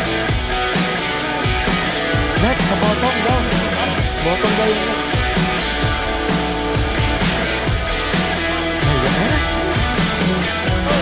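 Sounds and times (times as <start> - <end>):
guitar-led rock music: 0.0 - 11.0.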